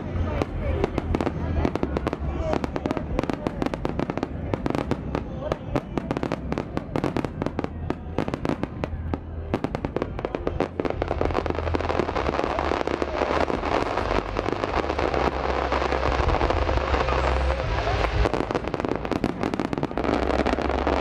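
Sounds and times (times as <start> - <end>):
fireworks rapid sharp reports: 0.0 - 21.0.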